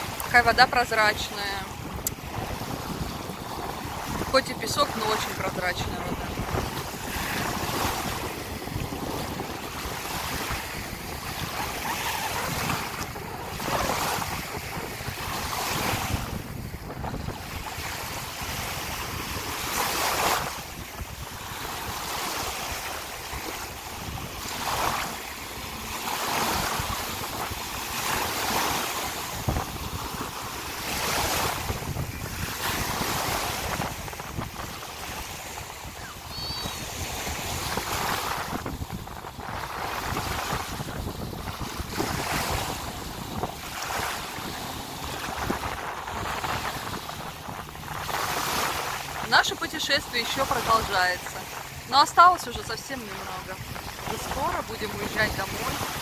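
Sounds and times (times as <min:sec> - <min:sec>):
waves breaking on sandy shore: 0:00.0 - 0:56.0
wind rumbling on microphone: 0:00.0 - 0:56.0.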